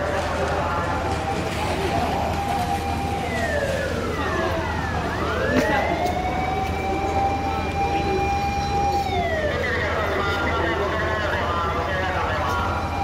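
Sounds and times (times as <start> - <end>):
fire engine siren wailing: 0.0 - 13.0.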